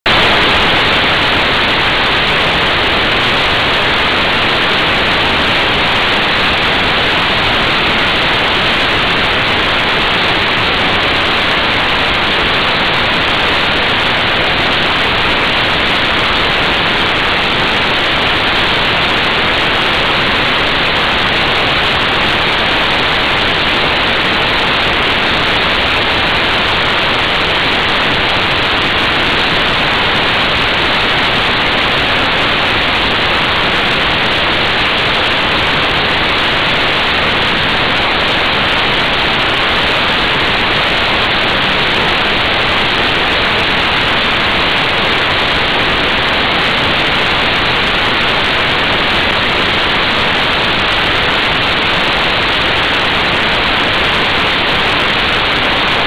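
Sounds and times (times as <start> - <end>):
rushing wind noise: 0.0 - 56.0.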